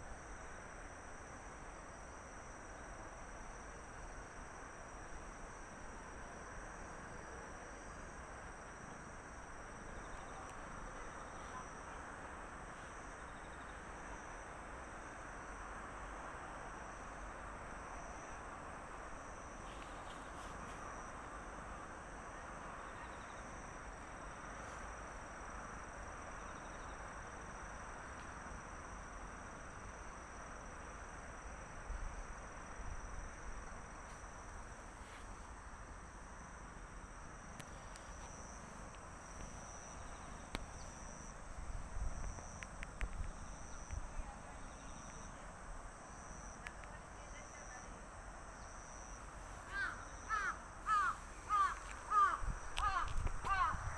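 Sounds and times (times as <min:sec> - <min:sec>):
insects trilling: 0:06.6 - 0:53.9.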